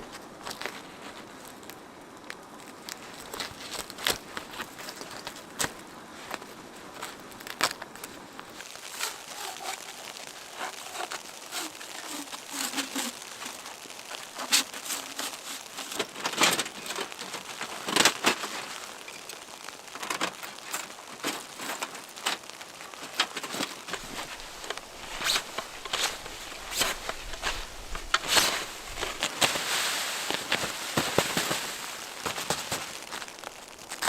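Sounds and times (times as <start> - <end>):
crinkling and crunching handling: 0.0 - 34.0.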